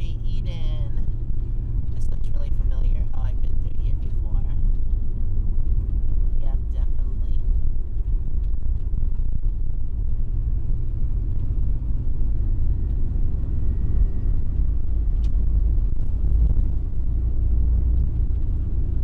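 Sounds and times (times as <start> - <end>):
motorhome engine and tyre rumble: 0.0 - 19.0.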